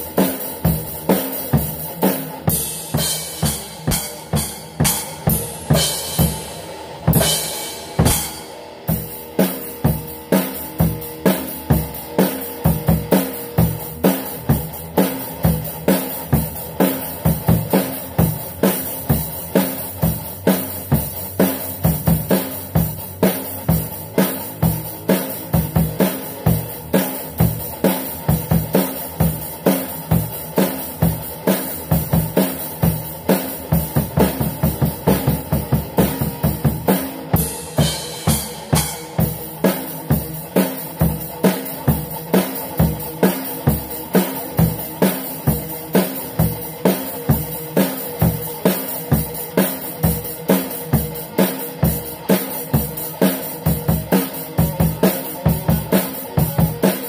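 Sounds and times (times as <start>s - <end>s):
drum beat on kick and snare: 0.0s - 57.0s
electric guitar: 0.0s - 57.0s.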